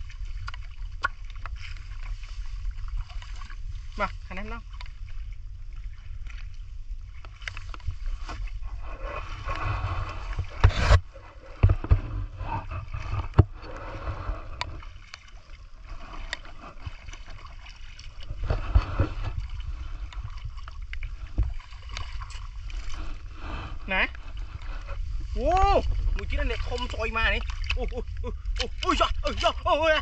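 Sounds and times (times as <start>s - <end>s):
feet wading through muddy water: 0.0s - 30.0s
steady low rumble: 0.0s - 30.0s.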